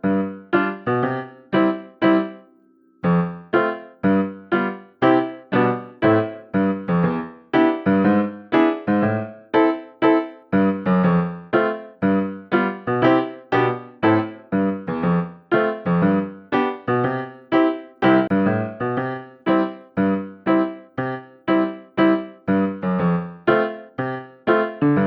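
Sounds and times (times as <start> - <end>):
piano notes: 0.0 - 25.0.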